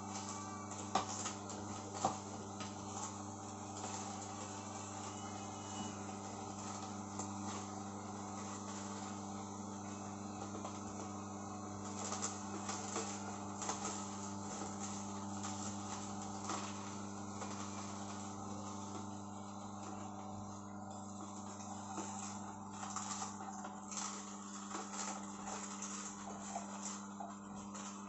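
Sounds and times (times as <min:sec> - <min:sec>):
celery crackling and snapping: 0:00.0 - 0:20.2, 0:20.9 - 0:28.0
juicer motor humming: 0:00.0 - 0:28.0.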